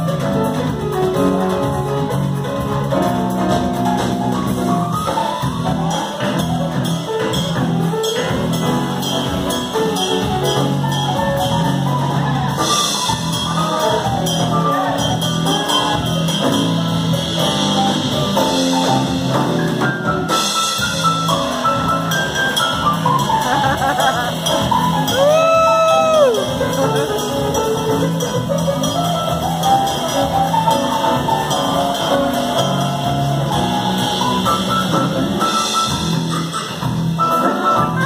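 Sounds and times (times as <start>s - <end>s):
drum kit: 0.0s - 38.0s
electric bass: 0.0s - 38.0s.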